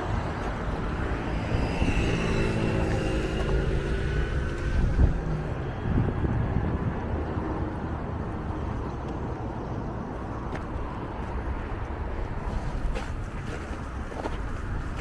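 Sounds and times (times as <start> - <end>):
steady low city rumble: 0.0 - 15.0.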